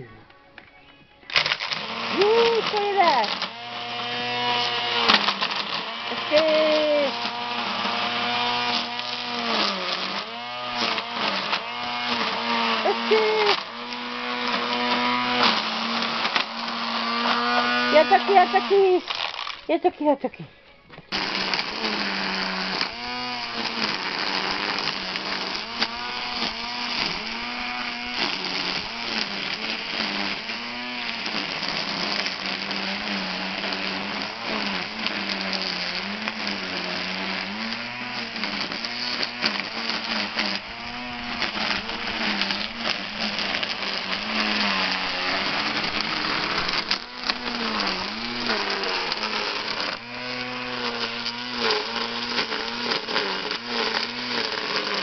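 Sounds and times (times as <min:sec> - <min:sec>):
string trimmer motor whine: 0:00.0 - 0:19.7, 0:21.1 - 0:55.0
trimmer line thrashing grass: 0:01.3 - 0:19.8, 0:21.1 - 0:55.0.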